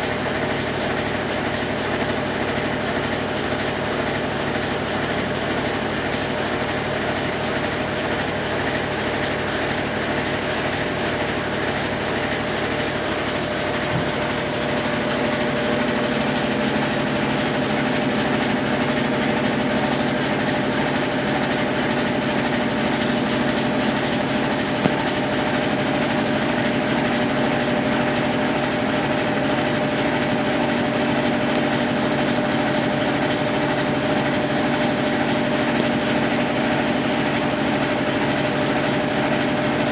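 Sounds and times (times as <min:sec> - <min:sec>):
agitator churning water: 0:00.0 - 0:39.9
washing machine motor running: 0:00.0 - 0:39.9.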